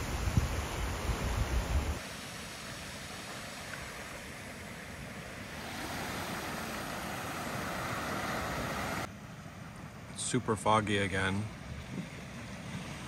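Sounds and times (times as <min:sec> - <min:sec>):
ocean waves on rocky shore: 0:00.0 - 0:13.0.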